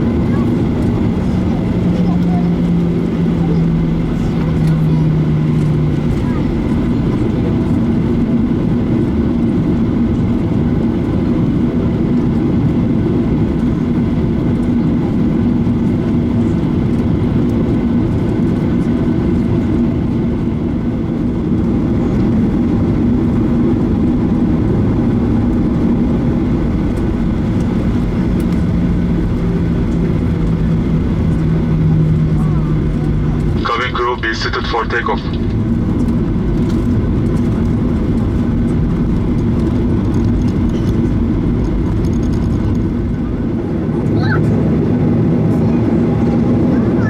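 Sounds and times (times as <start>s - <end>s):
aircraft cabin engine rumble: 0.0s - 47.0s.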